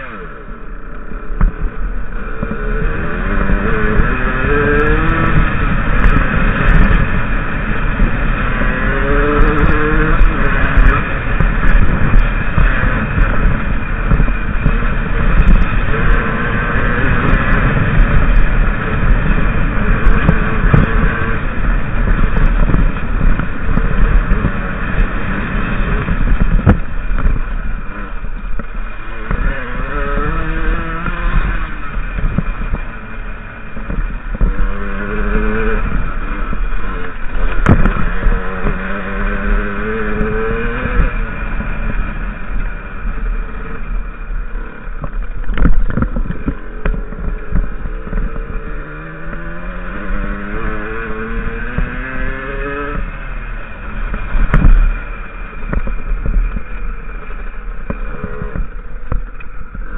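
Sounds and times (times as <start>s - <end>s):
motorcycle engine revving: 0.0s - 59.9s
rumble and rattle on microphone: 0.0s - 59.9s.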